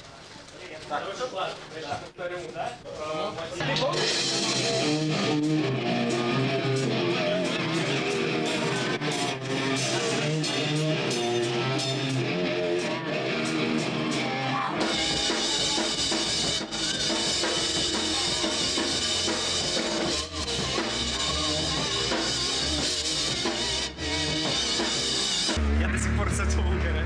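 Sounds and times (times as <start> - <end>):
rock music with guitar and drums: 3.6 - 26.9
heavy bass: 4.1 - 27.0.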